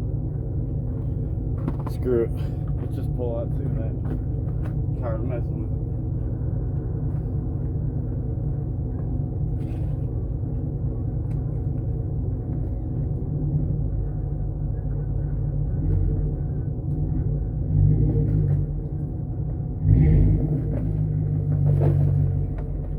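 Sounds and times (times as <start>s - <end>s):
pickup truck engine rumbling: 0.0s - 22.9s.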